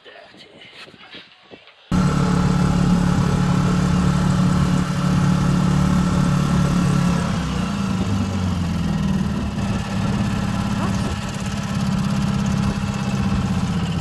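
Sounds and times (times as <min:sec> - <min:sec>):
outboard motor running: 0:01.9 - 0:14.0.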